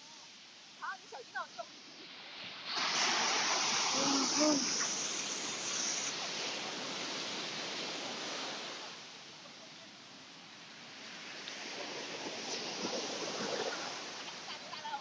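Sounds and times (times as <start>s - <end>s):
wave breaking on beach: 1.1s - 9.9s, 10.5s - 15.0s.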